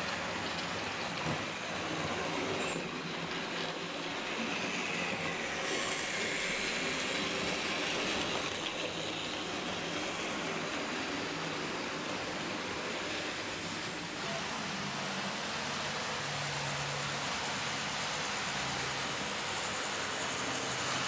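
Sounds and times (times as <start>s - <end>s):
model train wheels rolling on rails: 0.0s - 21.0s.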